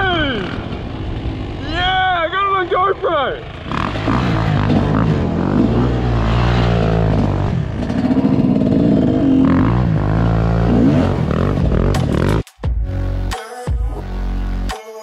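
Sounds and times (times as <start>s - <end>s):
dirt bike engines revving: 0.0s - 12.4s.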